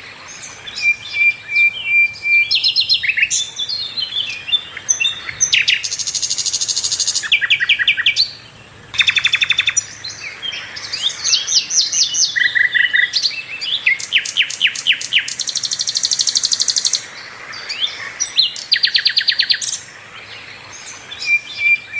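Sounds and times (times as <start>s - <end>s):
flycatcher singing: 0.3s - 21.9s.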